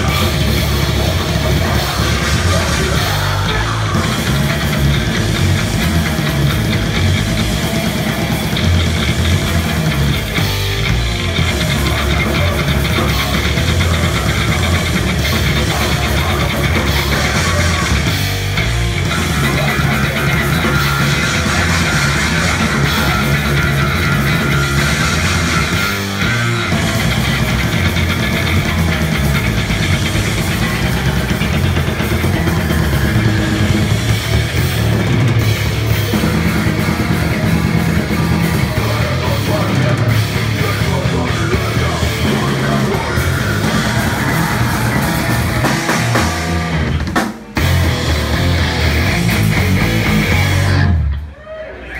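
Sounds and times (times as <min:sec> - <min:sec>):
heavy rock band playing: 0:00.0 - 0:51.6.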